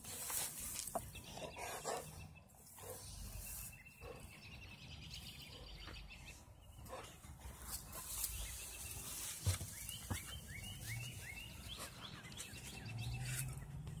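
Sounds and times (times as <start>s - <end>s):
bird chirping: 0.6s - 14.0s.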